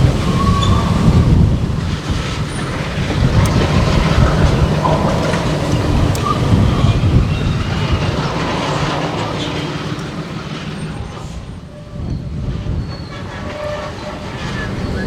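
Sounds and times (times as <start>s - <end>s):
diesel locomotive running: 0.0s - 15.0s
rail cars rolling over track: 0.0s - 15.0s.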